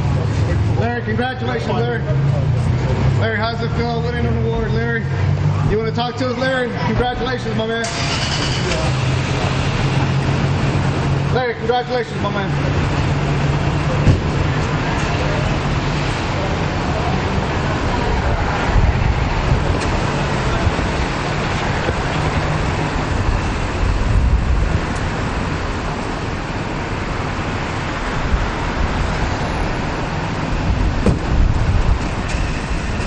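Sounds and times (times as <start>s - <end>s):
suv engines running slowly: 0.0s - 33.0s
traffic noise: 0.0s - 33.0s.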